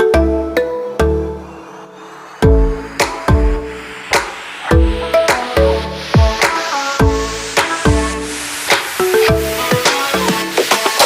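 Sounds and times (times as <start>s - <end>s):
held synth notes: 0.0s - 10.6s.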